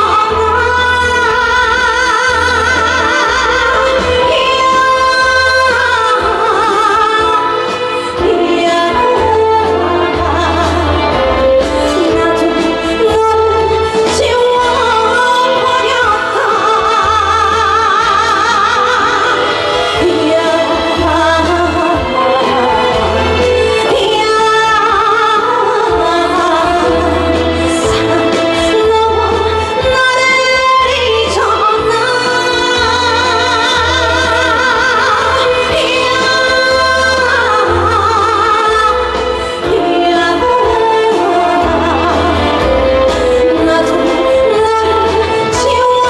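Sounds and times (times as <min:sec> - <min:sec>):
live band playing ballad: 0:00.0 - 0:46.0
woman singing with vibrato: 0:00.0 - 0:46.0.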